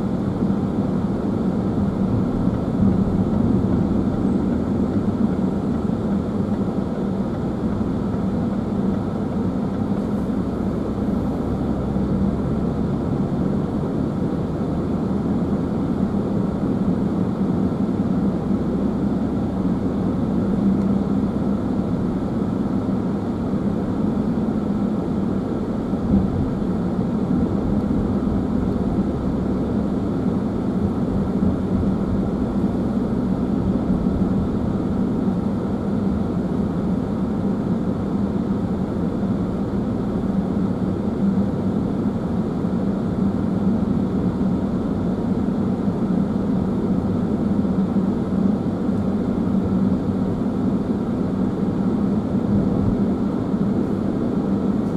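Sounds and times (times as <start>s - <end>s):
car engine and tyre noise: 0.0s - 54.9s.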